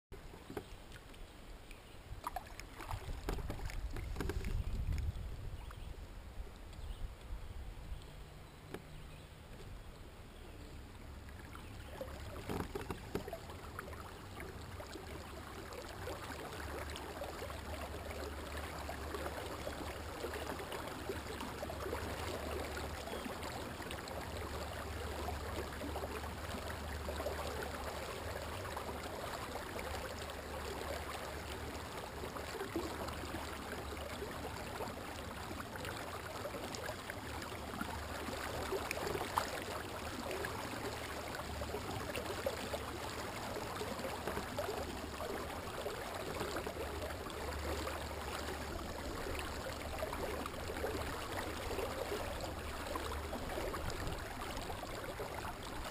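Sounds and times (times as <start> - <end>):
water gurgling along kayak hull: 0.1 - 55.9.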